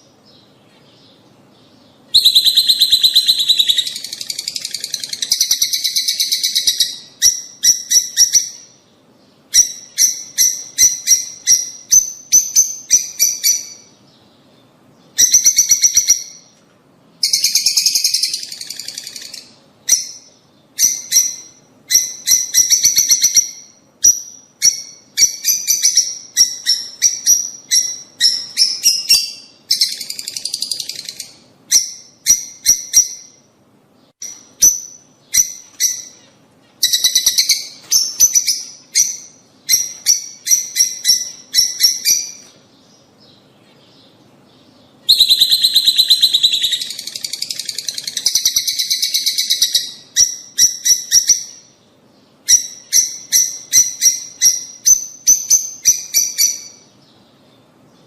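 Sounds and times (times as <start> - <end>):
lovebirds shrill chirping: 0.2 - 8.8, 17.2 - 33.4, 34.2 - 57.3.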